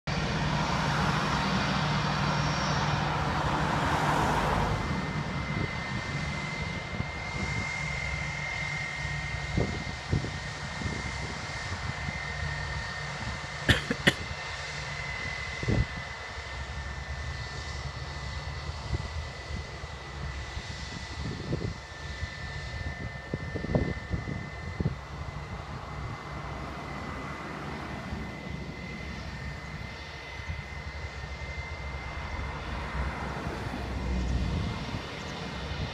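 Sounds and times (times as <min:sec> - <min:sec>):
jet engines humming and whining: 0:00.1 - 0:35.9.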